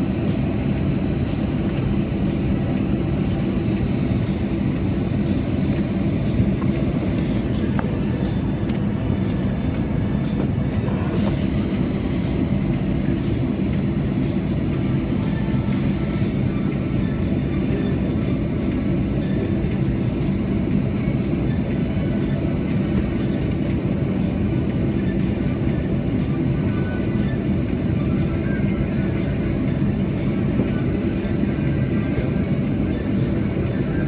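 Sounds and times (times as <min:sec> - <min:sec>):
airliner engines rumbling: 0:00.0 - 0:34.0.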